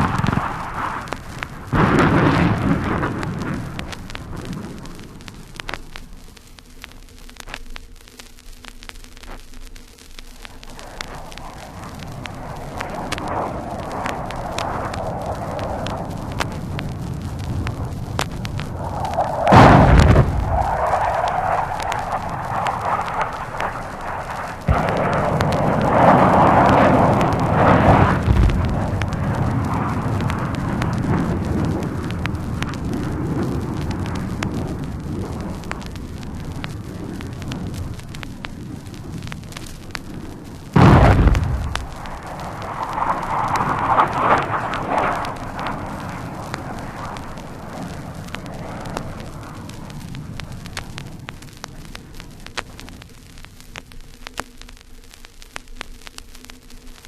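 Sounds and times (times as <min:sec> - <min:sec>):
bomb blast with rumble: 0:00.0 - 0:06.3, 0:10.4 - 0:53.4
vinyl record crackle and pops: 0:00.0 - 0:57.0.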